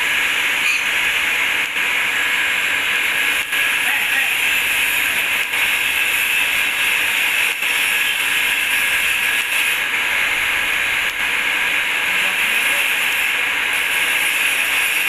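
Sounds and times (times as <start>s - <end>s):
welding arc hissing: 0.0s - 15.0s.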